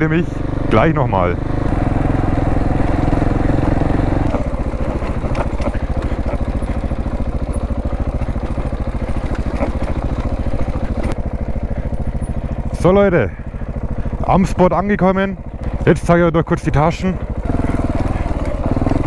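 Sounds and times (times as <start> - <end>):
motorcycle engine chugging: 0.0 - 19.0.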